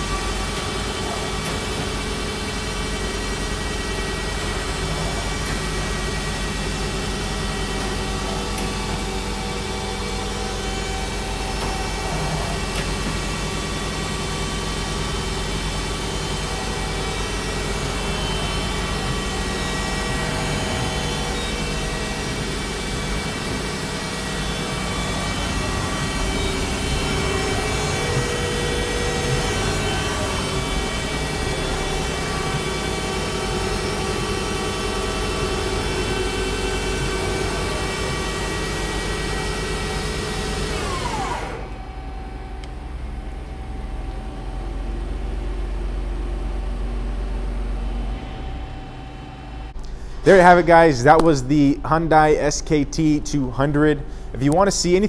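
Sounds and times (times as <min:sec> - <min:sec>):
lathe spindle whine: 0:00.0 - 0:51.2.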